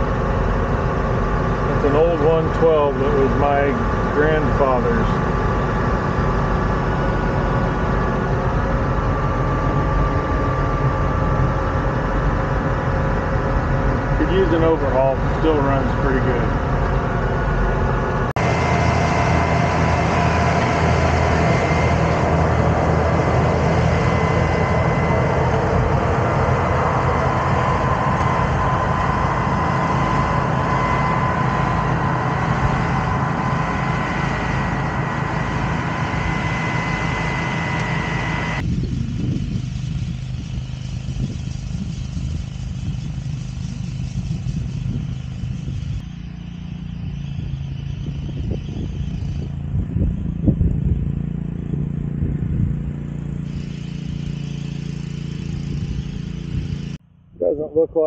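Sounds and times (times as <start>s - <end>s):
high whine: 0.0s - 58.0s
tractor diesel engine running: 0.0s - 58.0s.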